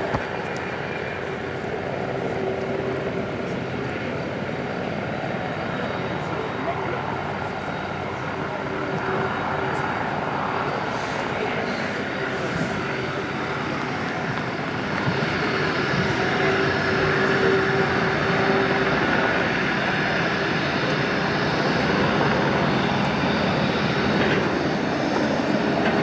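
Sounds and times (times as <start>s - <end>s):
jet engines whining: 0.0s - 26.0s.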